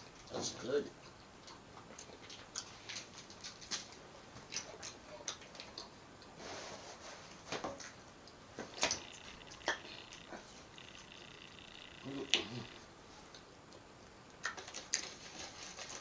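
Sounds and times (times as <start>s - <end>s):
chewing with wet mouth clicks: 1.0s - 6.4s, 7.8s - 12.5s, 13.3s - 16.0s.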